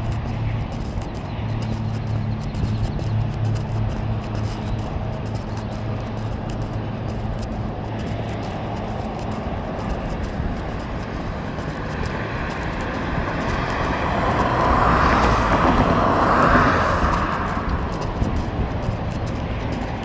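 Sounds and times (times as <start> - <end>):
low traffic rumble: 0.0 - 20.0
vehicle passing: 0.0 - 20.0.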